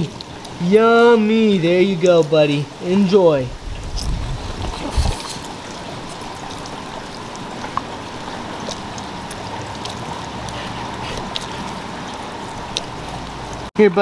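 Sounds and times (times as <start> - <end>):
tortoise chewing wet clicks: 0.0 - 0.6, 1.9 - 13.7.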